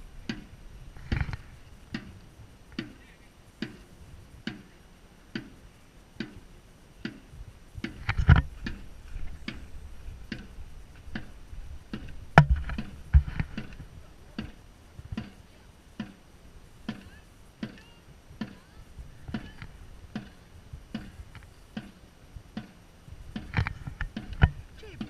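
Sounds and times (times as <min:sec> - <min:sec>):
drum beating steady rhythm: 0:00.0 - 0:25.0.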